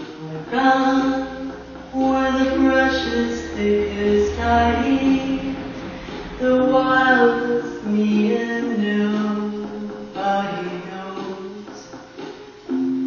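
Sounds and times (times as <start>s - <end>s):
person singing into microphone: 0.0s - 12.1s
recorded backing music: 0.0s - 13.0s.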